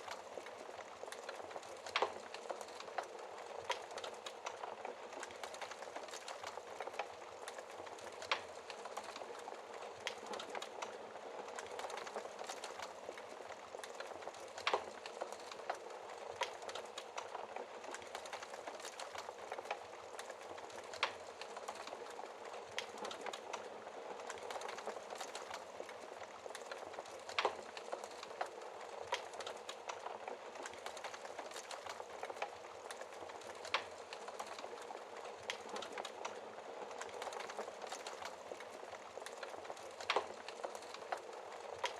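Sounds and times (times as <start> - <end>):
fire popping: 0.0 - 41.9
wood fire crackling: 0.0 - 41.9.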